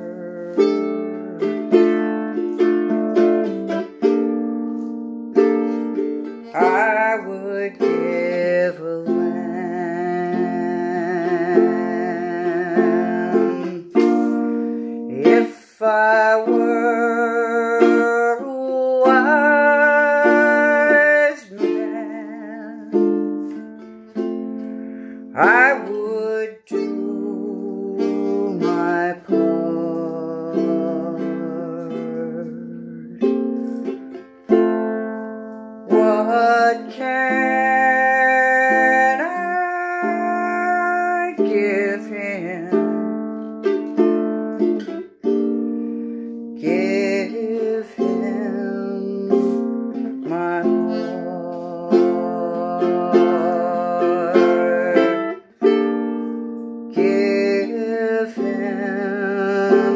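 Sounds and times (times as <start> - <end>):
woman singing: 0.0 - 2.3, 6.0 - 23.7, 25.3 - 34.0, 35.8 - 43.3, 46.5 - 55.6, 56.9 - 59.9
ukulele chords: 0.0 - 59.9.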